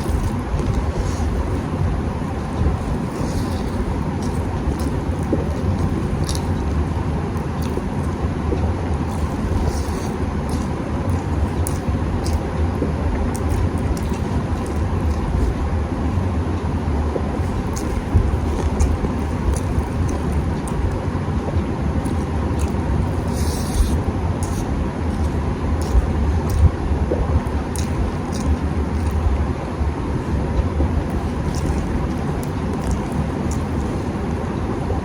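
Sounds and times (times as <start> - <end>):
faint steady hum: 0.0 - 35.0
low rumbling background noise: 0.0 - 35.0.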